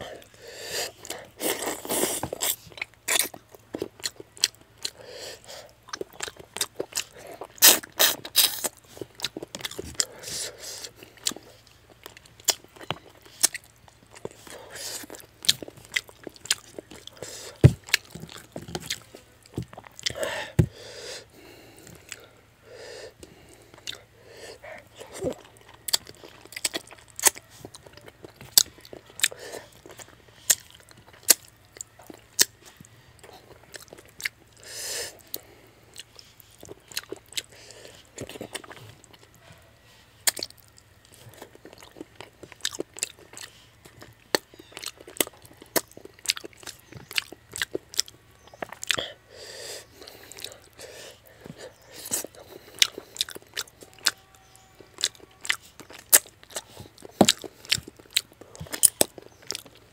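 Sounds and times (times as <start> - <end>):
wet chewing and lip smacking: 0.1 - 20.4, 21.2 - 22.3, 23.1 - 59.9.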